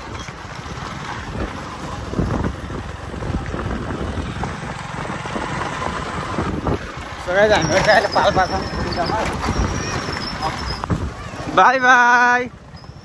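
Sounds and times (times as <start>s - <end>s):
wind on microphone: 0.0s - 11.6s
motorbike engine on dirt road: 0.0s - 13.0s.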